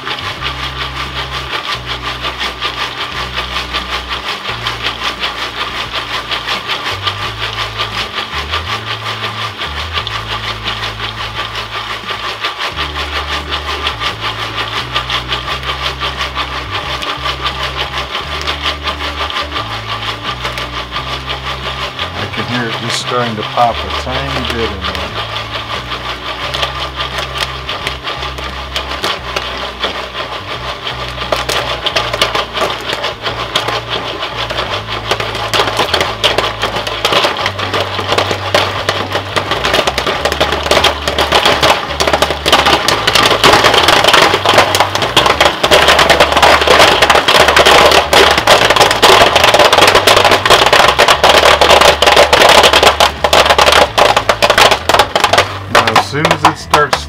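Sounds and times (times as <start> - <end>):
popcorn popping: 0.0 - 57.0.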